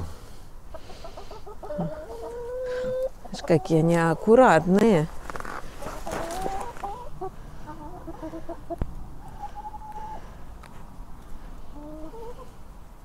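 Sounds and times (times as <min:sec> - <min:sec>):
hens clucking: 0:00.0 - 0:10.7, 0:11.6 - 0:12.6.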